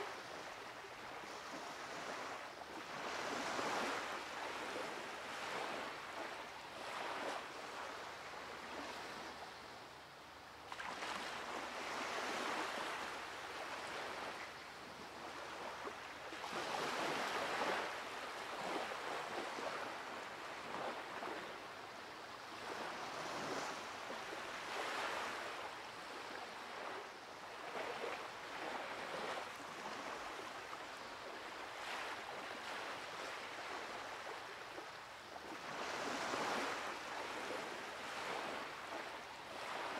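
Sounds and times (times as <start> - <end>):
ocean surf on beach: 0.0 - 10.0, 10.7 - 39.9.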